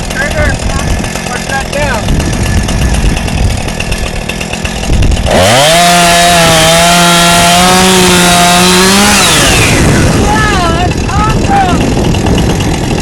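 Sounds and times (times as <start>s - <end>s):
chainsaw idling roughly: 0.0s - 13.0s
chainsaw revving at full speed: 0.0s - 13.0s.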